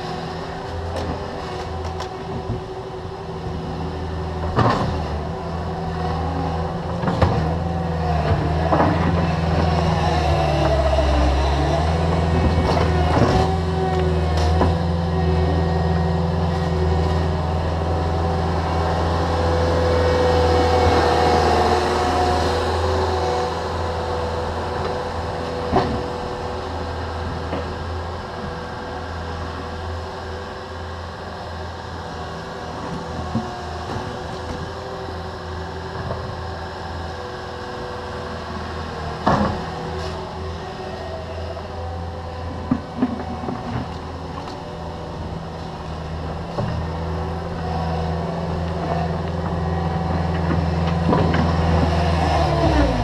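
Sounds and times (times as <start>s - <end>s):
diesel engines whining under load: 0.0s - 53.0s.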